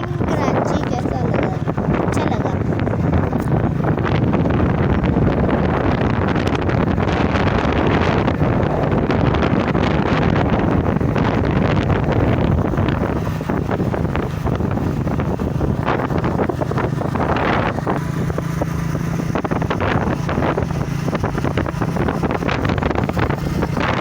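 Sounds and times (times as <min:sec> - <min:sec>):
motorbike engine drone: 0:00.0 - 0:24.0
wind buffeting microphone: 0:00.0 - 0:24.0.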